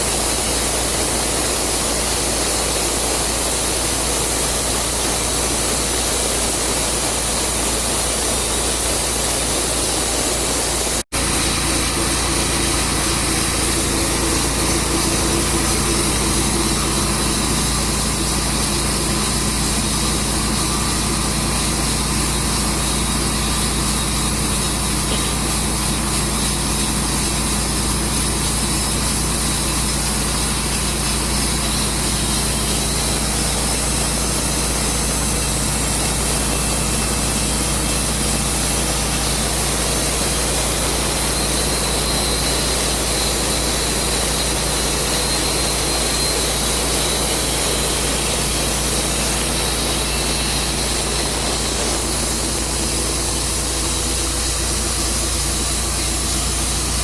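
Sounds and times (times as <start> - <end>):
saw blade cutting log: 0.0 - 57.0
sawmill engine running: 0.0 - 57.0.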